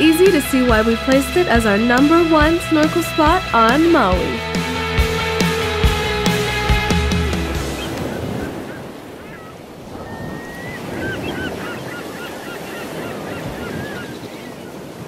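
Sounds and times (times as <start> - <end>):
birds chirping: 0.0 - 15.0
ocean surf washing: 0.0 - 15.0.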